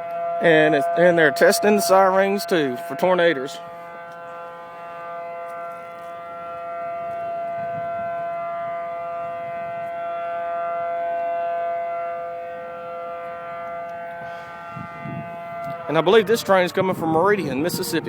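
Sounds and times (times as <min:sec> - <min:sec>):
warning siren: 0:00.0 - 0:18.0.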